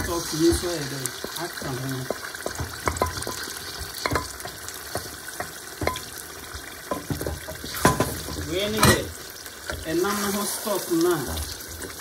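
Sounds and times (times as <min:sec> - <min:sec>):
stew sizzling in oil: 0:00.0 - 0:12.0
wooden spoon scraping a pot: 0:00.0 - 0:12.0.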